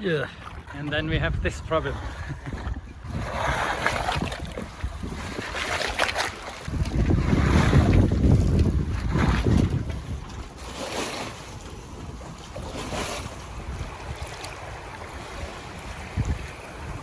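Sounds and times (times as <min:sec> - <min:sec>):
water sloshing: 0:00.0 - 0:17.0
wind buffeting microphone: 0:00.0 - 0:17.0.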